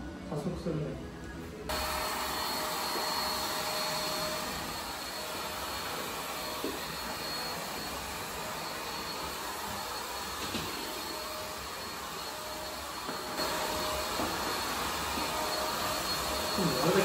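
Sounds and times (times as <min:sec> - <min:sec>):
faint high whine: 0:00.9 - 0:17.0
hair dryer blowing: 0:01.7 - 0:17.0.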